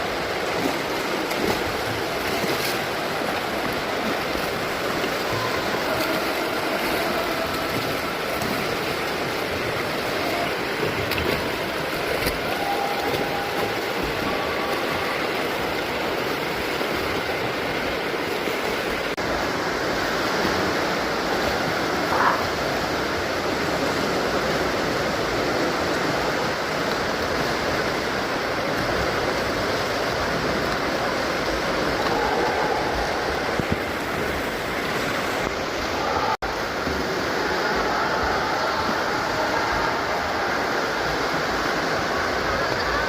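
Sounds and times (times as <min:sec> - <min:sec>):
pool water churning and splashing: 0:00.0 - 0:43.0.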